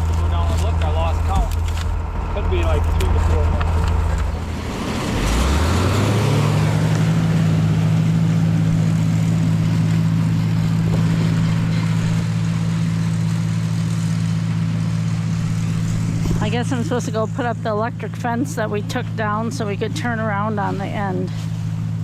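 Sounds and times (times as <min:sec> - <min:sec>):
tractor engine revving: 0:00.0 - 0:22.0.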